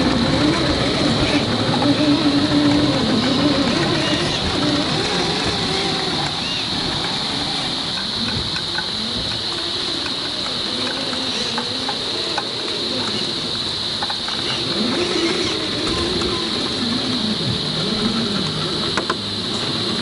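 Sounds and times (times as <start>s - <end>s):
insect chorus buzzing: 0.0s - 20.0s
toy truck motor whining: 0.0s - 20.0s.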